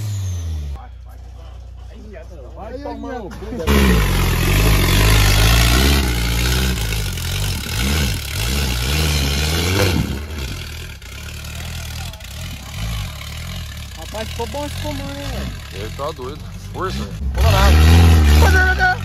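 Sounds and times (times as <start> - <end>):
buggy engine revving hard: 0.0 - 0.8, 3.6 - 19.0
wheels spinning in dirt: 3.6 - 19.0.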